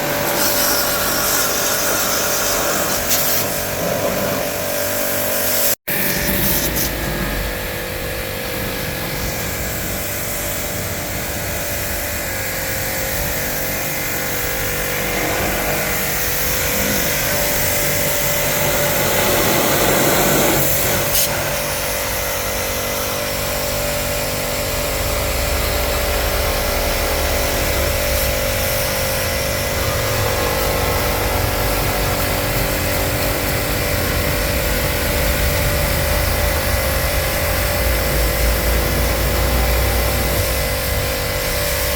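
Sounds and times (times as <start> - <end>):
motor running with hiss and hum: 0.0 - 41.9.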